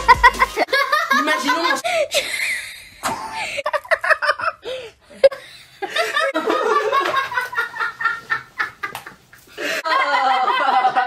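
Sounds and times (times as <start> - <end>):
young girls laughing: 0.0 - 11.0.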